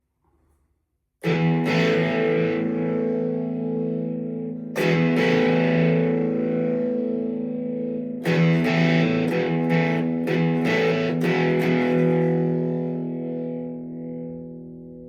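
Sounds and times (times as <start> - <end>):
distorted electric guitar chords: 1.2 - 15.0.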